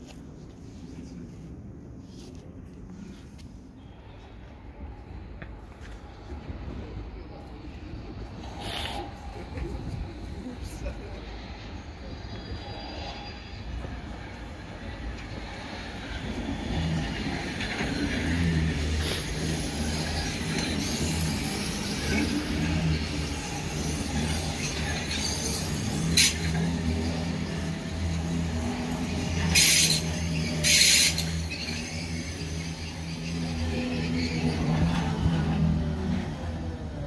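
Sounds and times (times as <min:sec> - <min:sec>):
wheel-on-rail noise: 0:02.8 - 0:37.0.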